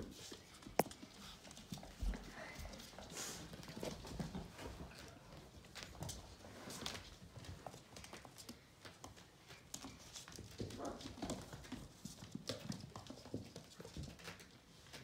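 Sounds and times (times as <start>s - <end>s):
puppy claws clicking on floor: 0.2s - 15.0s.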